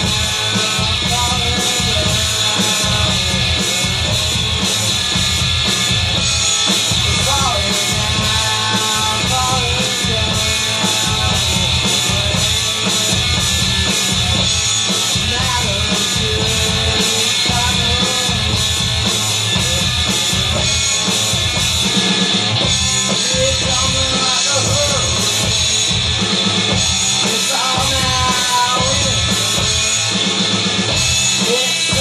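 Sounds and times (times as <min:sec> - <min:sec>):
drum kit playing: 0:00.0 - 0:32.0
electric guitar: 0:00.0 - 0:32.0.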